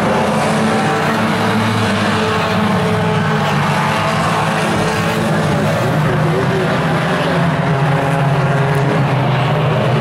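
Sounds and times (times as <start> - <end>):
race car engines: 0.0 - 10.0.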